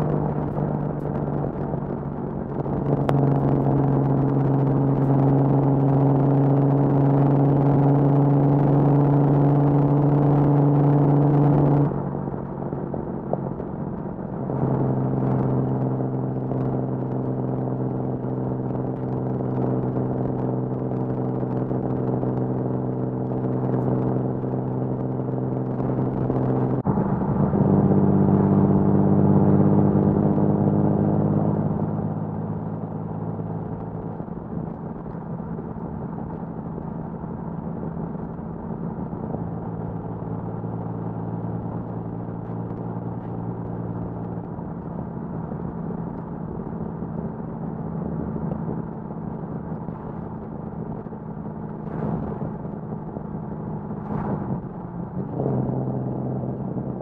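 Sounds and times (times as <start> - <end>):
car exhaust at steady cruise: 0.0 - 57.0.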